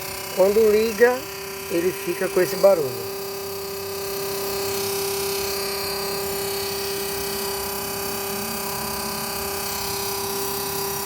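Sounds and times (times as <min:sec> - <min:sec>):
compressor humming: 0:00.0 - 0:11.0.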